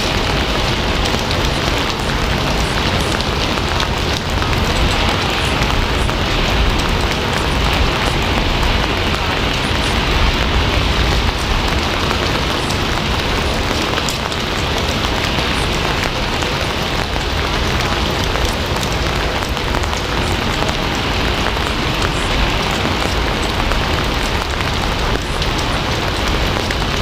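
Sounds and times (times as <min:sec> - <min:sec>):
rain hiss: 0:00.0 - 0:27.0
raindrop ticks: 0:00.0 - 0:27.0.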